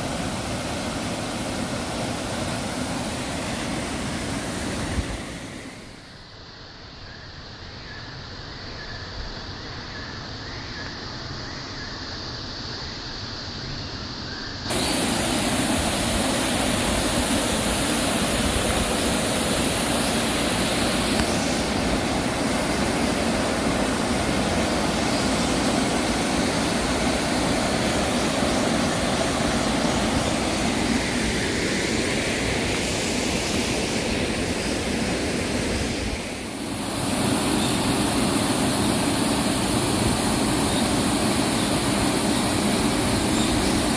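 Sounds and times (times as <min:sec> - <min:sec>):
stream water rushing: 0:00.0 - 0:06.1, 0:14.7 - 0:43.9.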